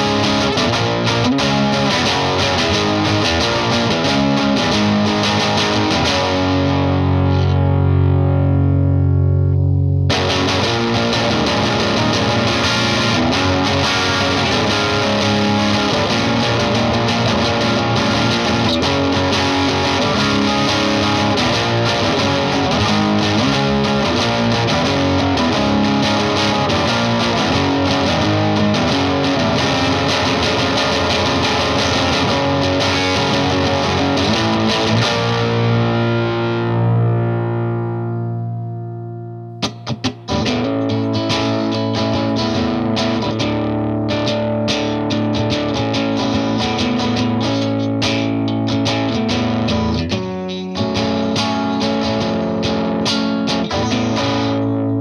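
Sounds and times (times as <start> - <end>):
overdriven electric guitar: 0.0 - 55.0.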